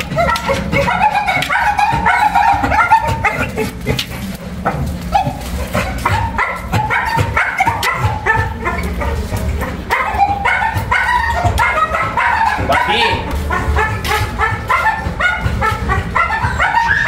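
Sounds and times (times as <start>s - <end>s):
puppies yipping and barking: 0.0s - 17.0s
steady low rumble: 0.0s - 17.0s.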